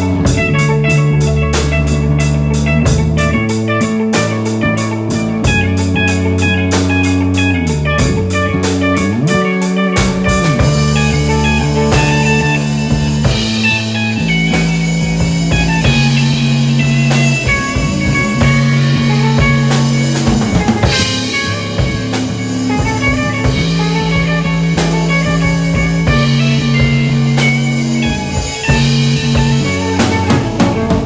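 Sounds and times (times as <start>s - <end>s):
instrumental rock jam: 0.0s - 31.0s.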